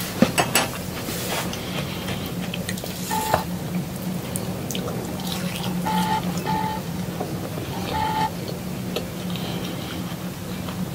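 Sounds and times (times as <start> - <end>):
low steady hum: 1.5 - 10.9.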